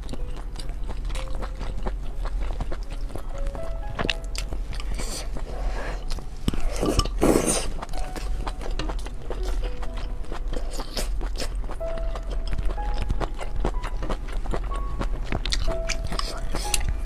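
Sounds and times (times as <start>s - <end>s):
chewing with crunches: 0.0s - 17.0s.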